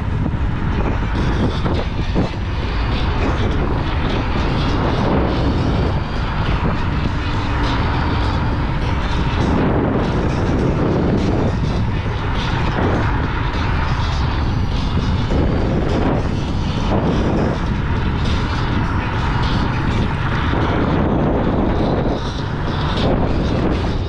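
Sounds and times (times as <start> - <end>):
electric scooter drone: 0.0 - 24.0
road noise: 0.0 - 24.0
wind buffeting microphone: 0.0 - 24.0.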